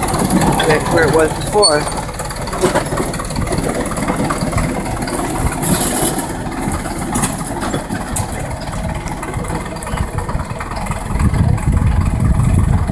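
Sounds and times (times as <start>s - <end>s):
locomotive engine rumbling: 0.0s - 12.9s.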